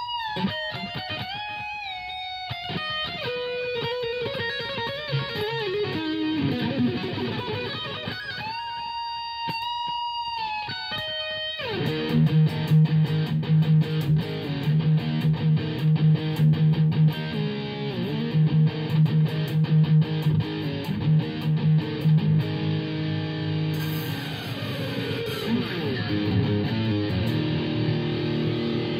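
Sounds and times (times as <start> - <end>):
electric guitar playing: 0.0 - 28.9.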